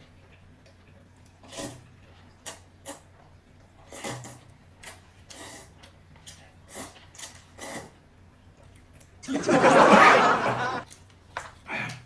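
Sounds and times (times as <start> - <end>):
chewing and eating noises: 0.0 - 9.2, 10.8 - 12.0.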